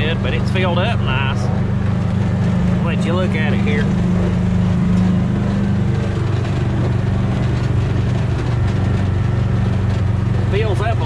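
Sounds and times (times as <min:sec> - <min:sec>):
utility vehicle engine running: 0:00.0 - 0:11.0.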